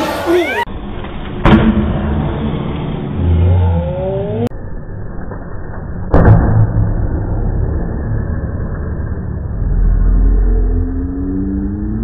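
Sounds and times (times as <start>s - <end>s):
low rumbling: 0.7s - 12.0s.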